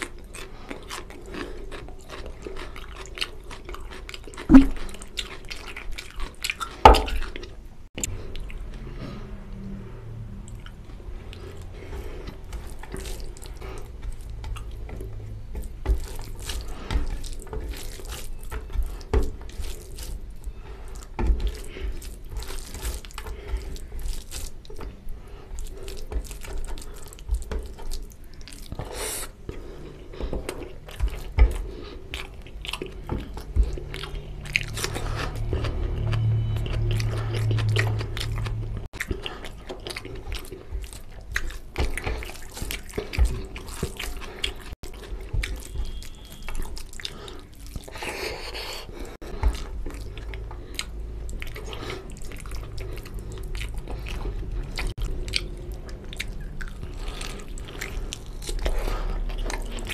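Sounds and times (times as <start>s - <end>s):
wet chewing and lip-smacking: 0.0s - 9.7s, 10.4s - 59.9s
low steady hum: 3.7s - 28.8s, 29.4s - 59.9s.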